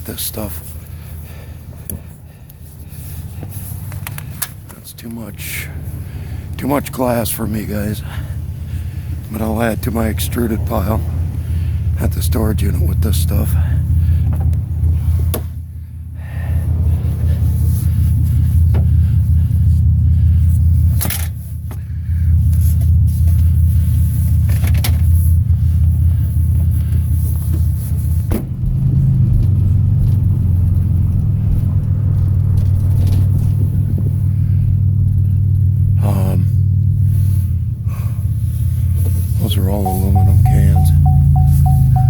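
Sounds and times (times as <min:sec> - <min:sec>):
van engine and road rumble: 0:00.0 - 0:42.0.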